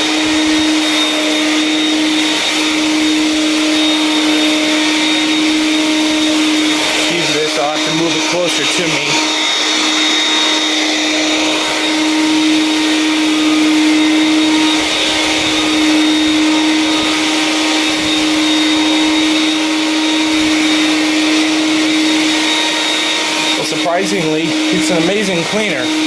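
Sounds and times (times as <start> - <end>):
vacuum cleaner motor running: 0.0 - 26.0.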